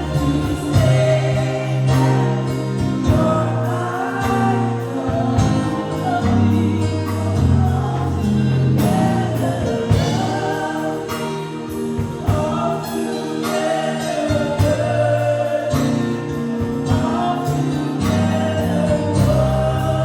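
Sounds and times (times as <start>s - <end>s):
band with bass and drums: 0.0s - 20.0s
voices singing together: 0.0s - 20.0s.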